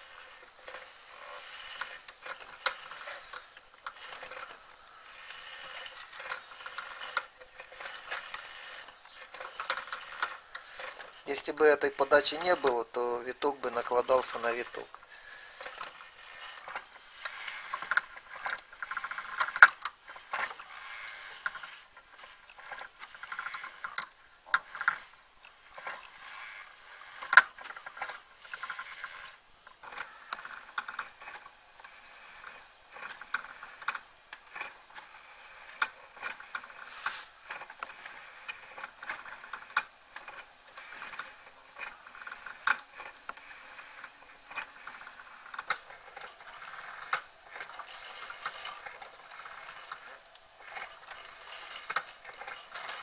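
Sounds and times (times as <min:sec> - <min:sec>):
coil-winding machine rattling: 0:00.0 - 0:53.0
sharp mechanical clicks: 0:00.0 - 0:53.0.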